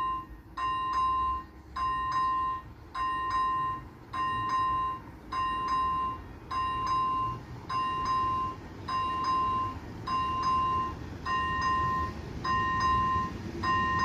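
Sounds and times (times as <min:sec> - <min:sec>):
level crossing warning bell: 0:00.0 - 0:14.0
low steady rumble: 0:00.0 - 0:14.0.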